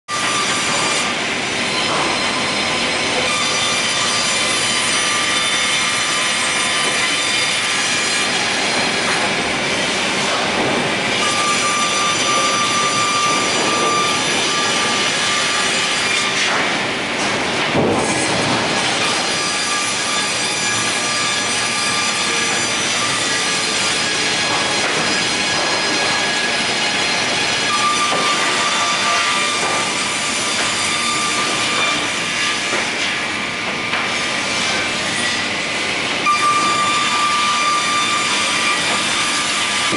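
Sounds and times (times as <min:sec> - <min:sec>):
multiple saw whining: 0:00.1 - 0:39.9.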